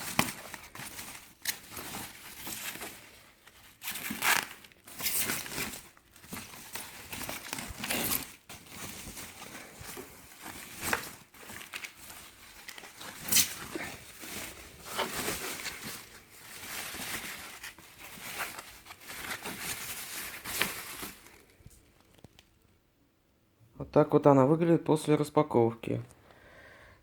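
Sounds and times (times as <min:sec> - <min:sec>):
packing material crinkling: 0:00.0 - 0:22.7.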